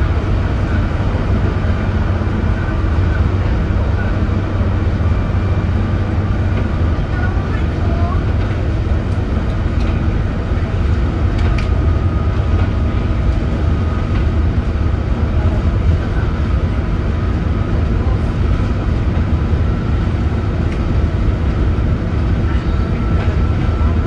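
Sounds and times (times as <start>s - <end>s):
bus diesel engine drone: 0.0s - 24.0s
road noise: 0.0s - 24.0s.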